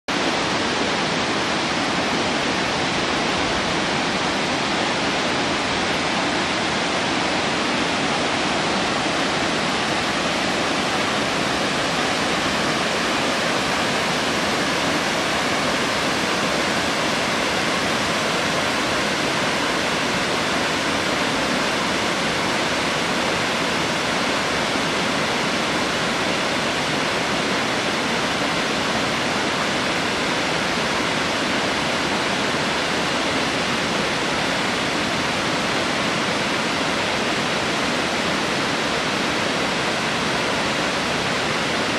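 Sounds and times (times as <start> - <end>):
waterfall rushing: 0.1 - 41.9.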